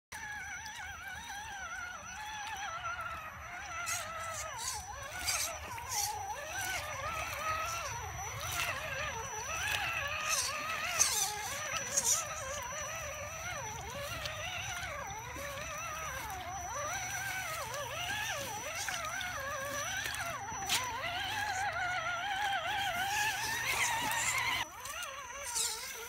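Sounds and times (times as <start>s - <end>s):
electric motor and gears whining: 0.1s - 26.0s
short splashes: 0.6s - 26.0s.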